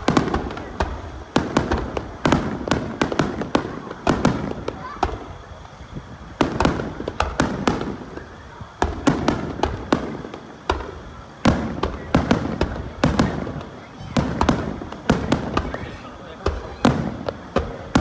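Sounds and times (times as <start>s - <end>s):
firework shells bursting: 0.0s - 18.0s.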